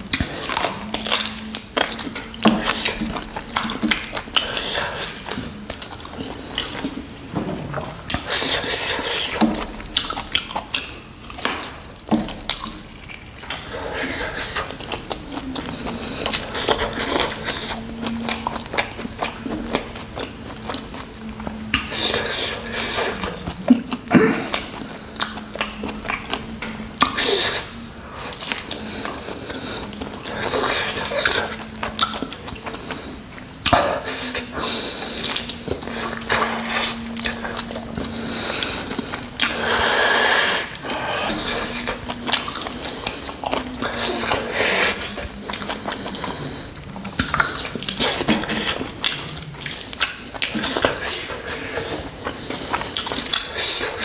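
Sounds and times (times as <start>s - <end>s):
wet chewing and lip-smacking: 0.0s - 7.1s, 7.8s - 54.0s
faint steady hum: 0.0s - 54.0s.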